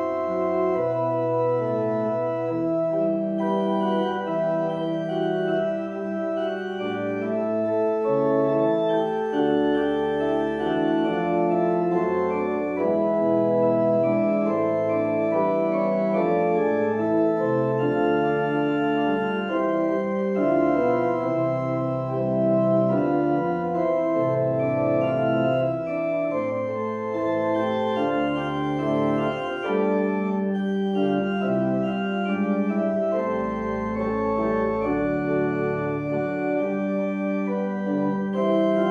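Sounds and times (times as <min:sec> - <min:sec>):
organ playing chords: 0:00.0 - 0:38.9.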